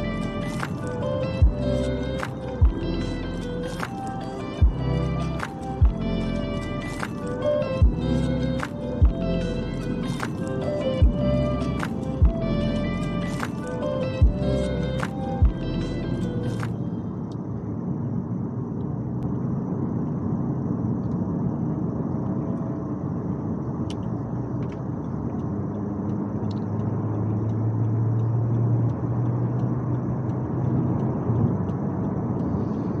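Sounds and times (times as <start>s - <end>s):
car road and engine noise: 0.0s - 33.0s
low engine hum: 0.0s - 33.0s.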